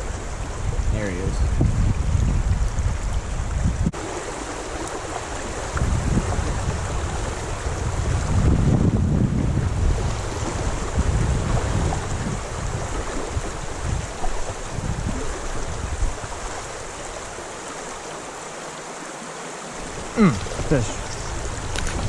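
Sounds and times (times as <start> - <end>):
wind buffeting microphone: 0.0 - 17.4, 19.8 - 22.0
creek rushing: 0.0 - 22.0.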